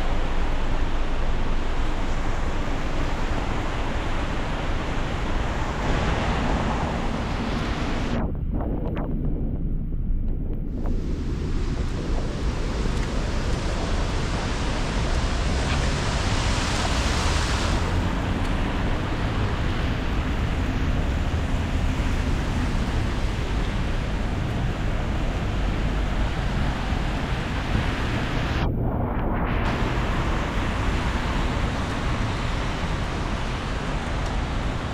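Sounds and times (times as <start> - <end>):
rain on a city street: 0.0 - 8.2, 10.7 - 34.9
wind rumble on microphone: 0.0 - 34.9.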